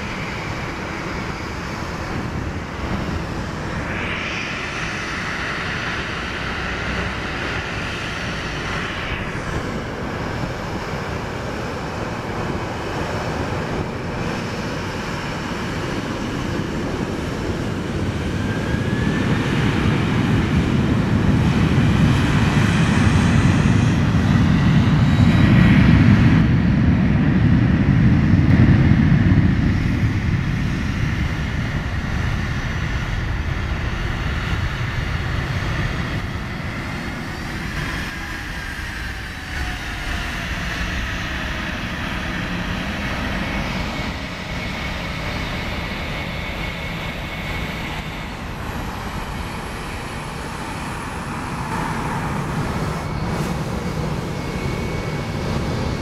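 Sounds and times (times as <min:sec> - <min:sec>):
jet engine whine and rumble: 0:00.0 - 0:56.0.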